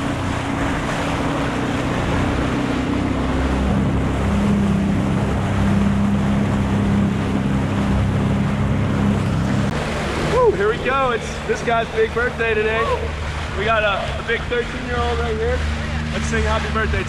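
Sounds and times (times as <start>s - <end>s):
jet ski engine running: 0.0s - 17.0s
wind and water rushing: 0.0s - 17.0s.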